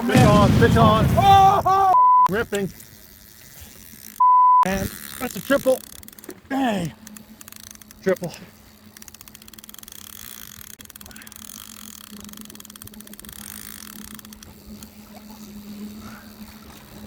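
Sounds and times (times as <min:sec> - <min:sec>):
boat engine humming: 0:00.0 - 0:17.0
fishing reel clicking: 0:02.3 - 0:17.0.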